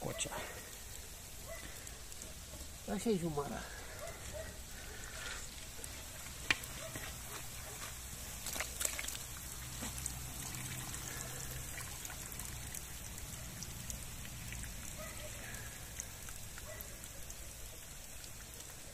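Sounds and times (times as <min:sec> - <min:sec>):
fat dripping into a cauldron: 0:00.1 - 0:18.9.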